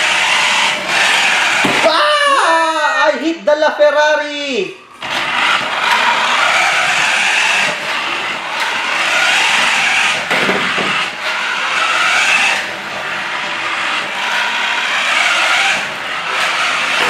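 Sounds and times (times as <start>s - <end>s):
toy car motor whirring: 0.0s - 1.9s, 5.0s - 17.0s.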